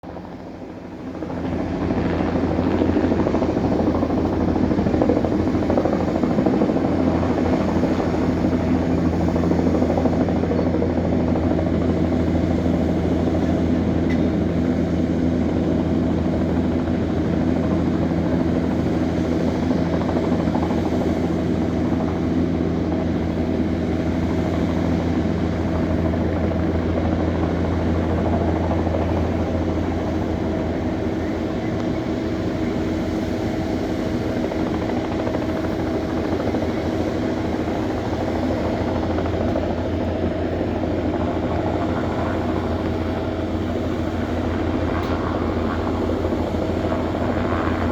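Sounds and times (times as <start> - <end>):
helicopter rotor and engine: 0.0 - 47.9.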